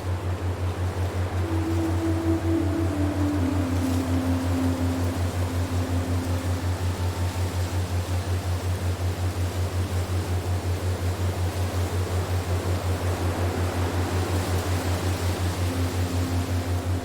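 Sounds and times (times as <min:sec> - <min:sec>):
low pulsing hum: 0:00.0 - 0:17.0
steady wind-like hiss: 0:00.0 - 0:17.0.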